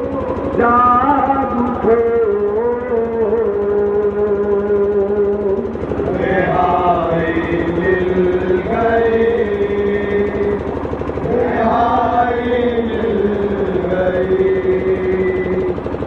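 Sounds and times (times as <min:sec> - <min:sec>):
voices chanting through loudspeakers: 0:00.0 - 0:15.9
steady drone: 0:00.0 - 0:16.0.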